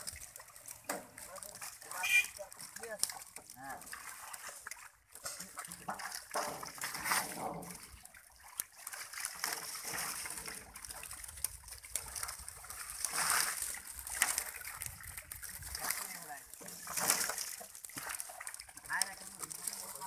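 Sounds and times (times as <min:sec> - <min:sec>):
water dripping: 0:00.0 - 0:20.0
water splashing: 0:00.0 - 0:20.0.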